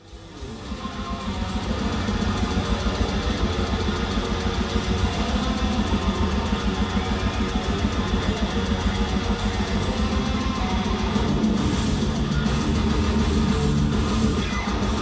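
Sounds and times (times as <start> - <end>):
distorted electric guitars: 0.0 - 15.0.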